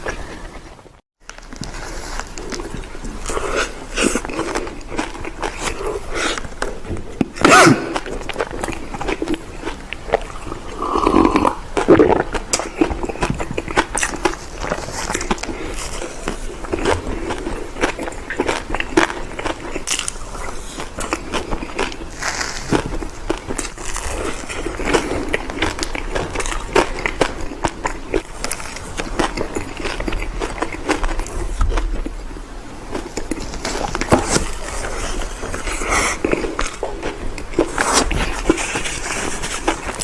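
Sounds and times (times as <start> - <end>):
crunchy sweets being chewed: 0.0 - 40.0.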